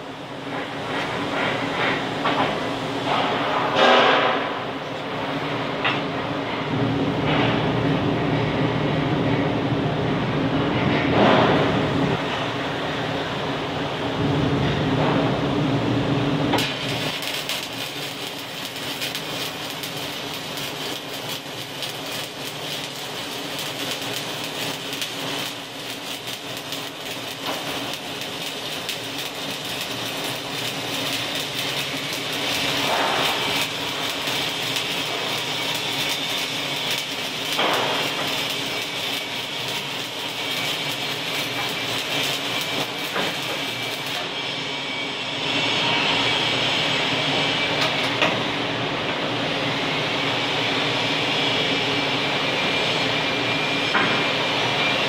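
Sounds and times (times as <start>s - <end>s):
arc welding crackling and sizzling: 0.0s - 9.5s, 10.2s - 55.0s.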